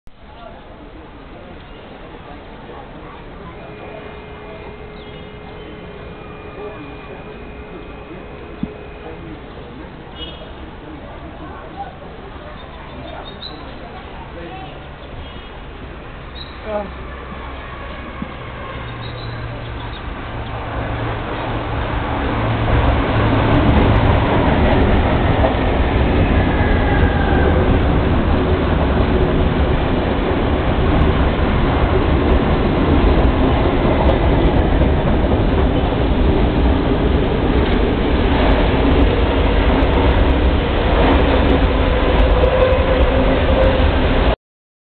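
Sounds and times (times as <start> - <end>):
electric train passing: 0.4 - 44.4.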